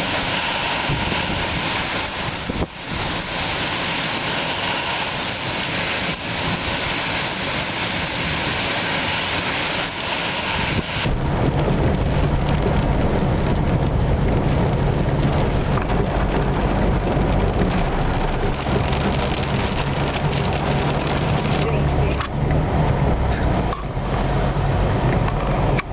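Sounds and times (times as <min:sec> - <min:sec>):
heavy rain hiss: 0:00.0 - 0:25.0
deep rumble of rain and storm: 0:00.0 - 0:25.9.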